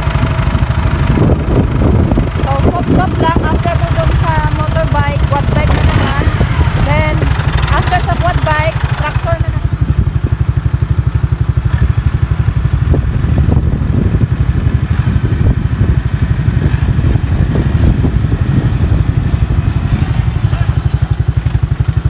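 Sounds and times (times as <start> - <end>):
engine running at a fast beat: 0.0 - 22.0.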